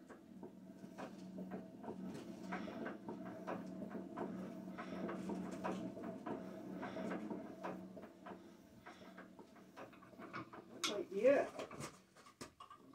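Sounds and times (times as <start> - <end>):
steady low hum: 0.0 - 11.6
engine mechanical clicks and knocks: 0.0 - 12.9.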